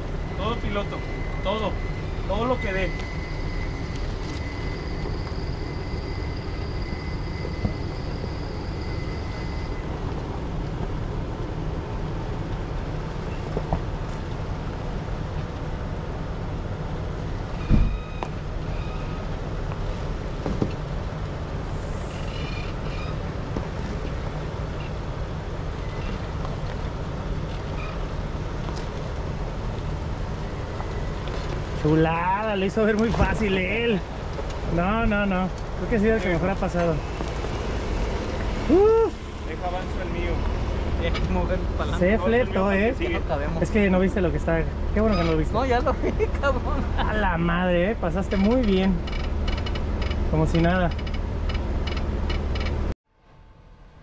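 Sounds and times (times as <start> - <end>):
vehicle engine low rumble: 0.0 - 54.0.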